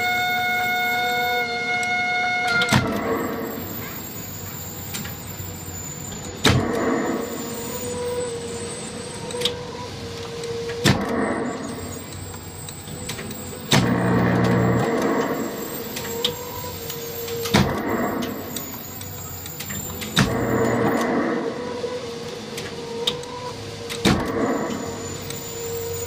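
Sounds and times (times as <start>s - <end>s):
electric motors humming: 2.6s - 26.0s.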